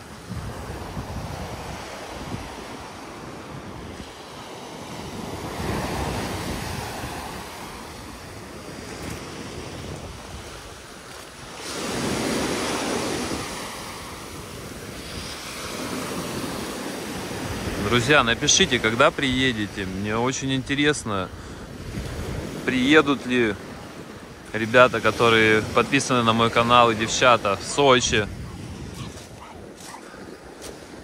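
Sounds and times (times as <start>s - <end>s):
wind rumbling on microphone: 0.0s - 18.2s, 21.3s - 22.7s, 25.5s - 31.0s
surf washing onto shore: 0.0s - 31.0s.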